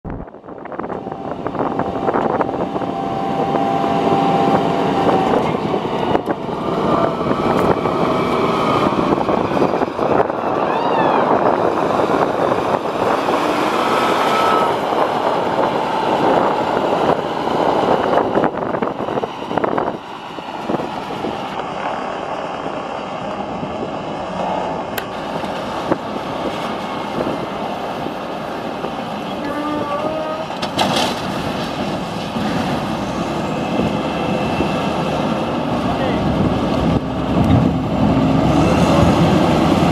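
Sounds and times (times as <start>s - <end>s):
wheel loader diesel engine: 0.1s - 39.9s.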